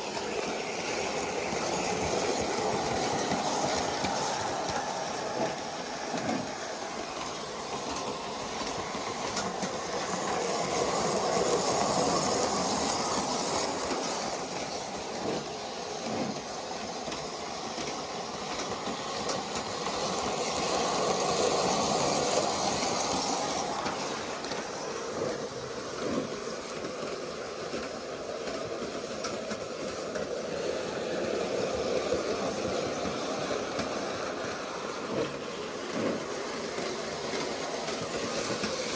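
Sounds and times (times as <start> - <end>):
electric model train running on track: 0.0 - 38.9.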